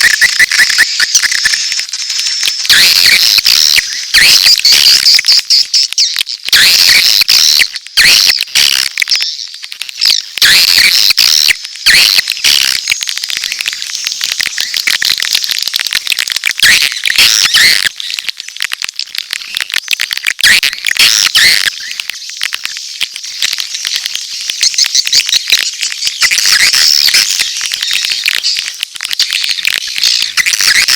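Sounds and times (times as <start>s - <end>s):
swiftlets twittering and chirping: 0.0s - 30.9s.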